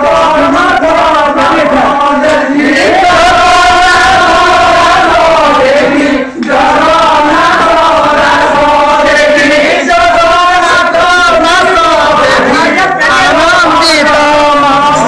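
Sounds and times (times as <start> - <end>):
men singing chant together: 0.0 - 15.0.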